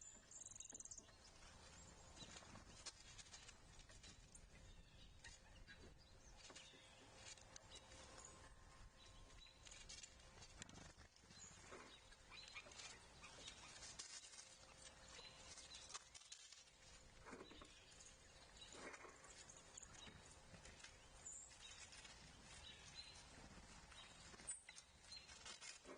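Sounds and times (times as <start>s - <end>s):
faint bird chirps: 0.0s - 25.9s
soft clicks and scratches: 0.4s - 25.9s.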